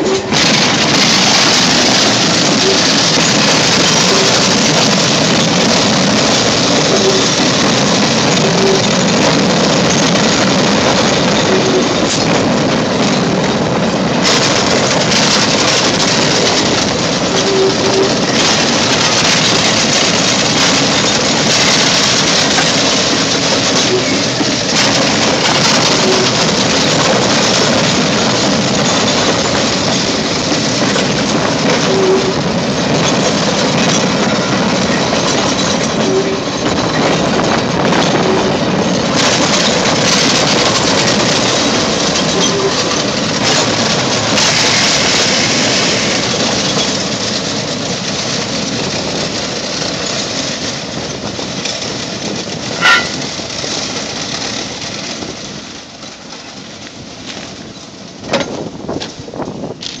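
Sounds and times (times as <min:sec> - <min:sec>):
train wheels clattering on rails: 0:00.0 - 1:00.0.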